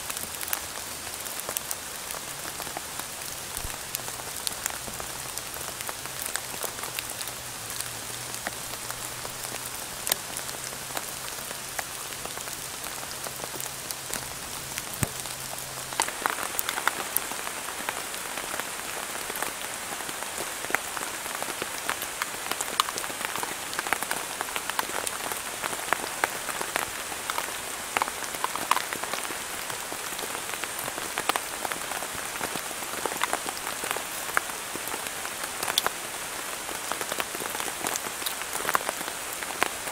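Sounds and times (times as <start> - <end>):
raindrops ticking: 0.0 - 36.2, 36.8 - 39.8
rain on a tarp: 0.0 - 39.9.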